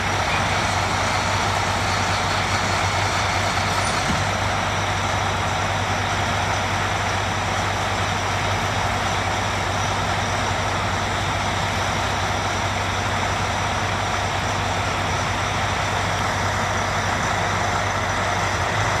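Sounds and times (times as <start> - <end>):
diesel engines running under load: 0.0 - 19.0.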